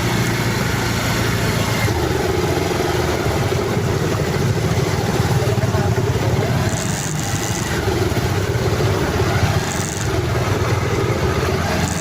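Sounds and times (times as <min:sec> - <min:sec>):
constant rushing noise: 0:00.0 - 0:12.0
vehicle engine running: 0:00.0 - 0:12.0.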